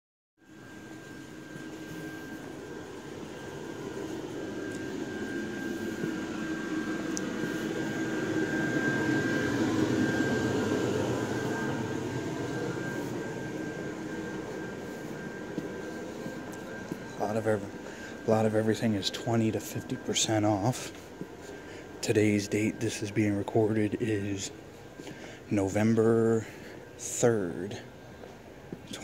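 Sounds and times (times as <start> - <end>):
high-pitched whine: 0.4 - 29.0
low hum: 0.4 - 29.0.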